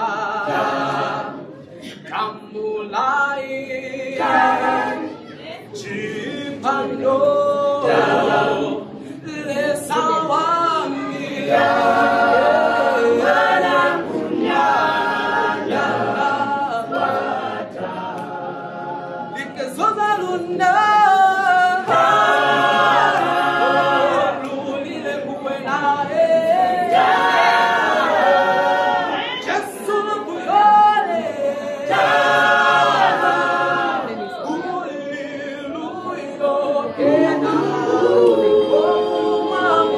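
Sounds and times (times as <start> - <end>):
mixed voices singing a cappella: 0.0 - 39.9.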